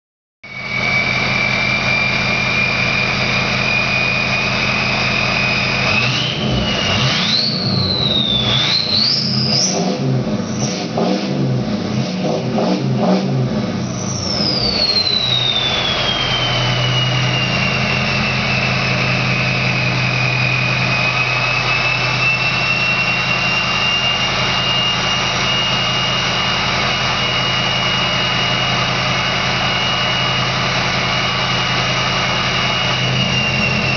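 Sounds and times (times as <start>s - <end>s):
high-pitched turbo whistle: 0.4s - 10.9s, 13.8s - 33.9s
diesel engine idling and revving: 0.4s - 33.9s.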